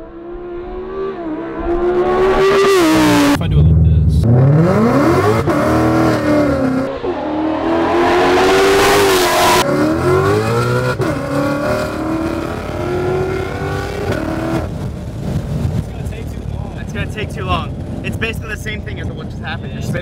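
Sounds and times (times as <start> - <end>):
car engine accelerating: 0.0 - 19.6.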